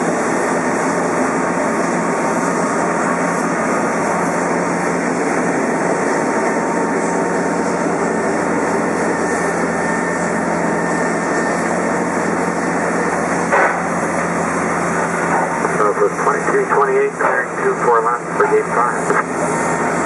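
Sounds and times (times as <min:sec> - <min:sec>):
jet engine whine: 0:00.0 - 0:20.0.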